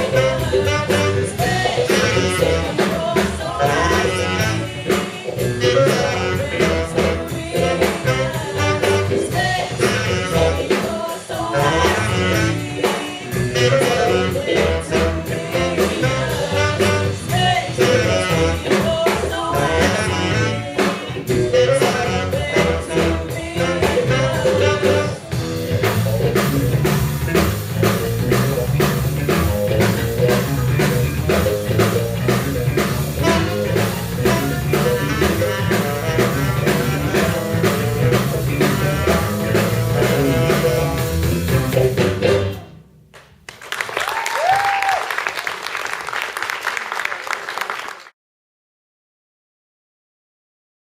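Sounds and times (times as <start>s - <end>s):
tenor saxophone melody: 0.0s - 42.8s
funk-rock band playing: 0.0s - 42.9s.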